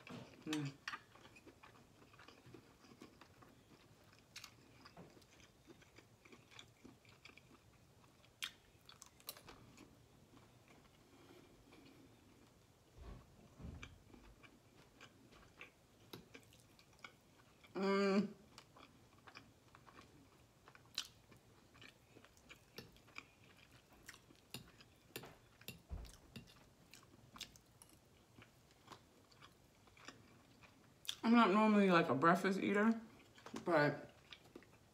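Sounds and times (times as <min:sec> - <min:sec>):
close chewing and biting: 0:00.0 - 0:17.8, 0:18.4 - 0:31.2, 0:33.1 - 0:34.9.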